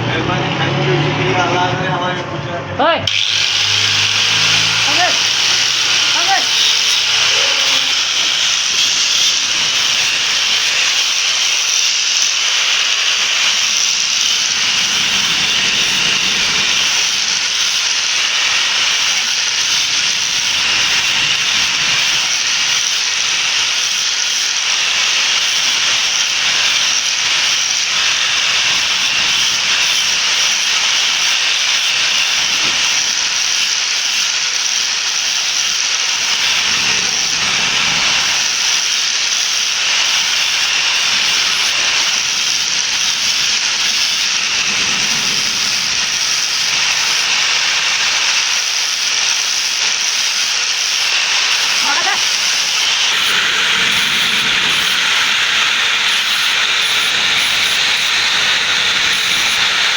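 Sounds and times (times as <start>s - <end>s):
metalwork hiss: 3.1s - 59.9s.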